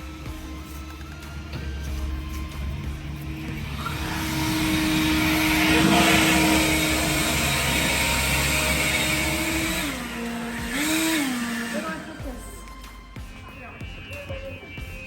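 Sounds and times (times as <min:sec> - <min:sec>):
small racing engine passing: 0:00.0 - 0:12.8.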